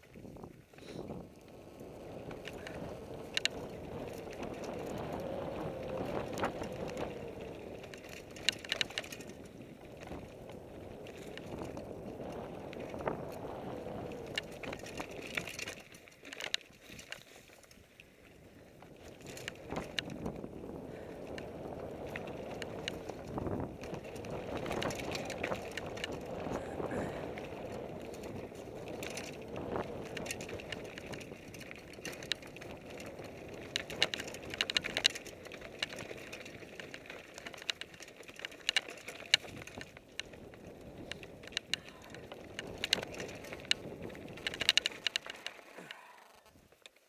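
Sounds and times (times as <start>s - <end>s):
wind over microphone: 0.0s - 15.9s, 18.3s - 46.7s
bike clacking and rattling: 0.0s - 47.0s
tyres rolling over dirt: 1.1s - 17.8s, 18.8s - 47.0s.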